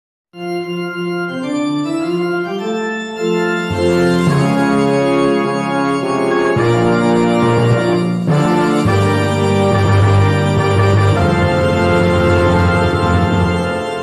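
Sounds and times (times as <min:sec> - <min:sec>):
organ playing a hymn: 0:00.4 - 0:14.0.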